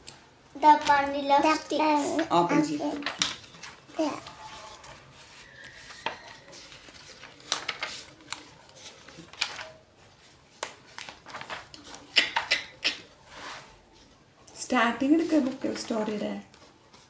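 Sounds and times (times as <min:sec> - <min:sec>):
book pages being flipped: 0:00.0 - 0:14.2, 0:15.2 - 0:17.0.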